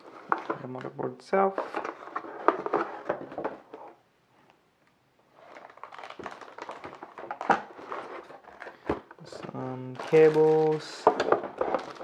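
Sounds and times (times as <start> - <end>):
plastic and cardboard crinkling: 0.0 - 4.0, 5.3 - 12.0.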